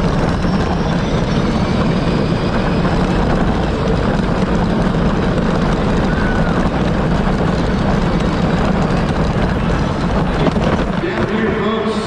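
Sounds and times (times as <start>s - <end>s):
ride-on toy car motor: 0.0s - 11.7s.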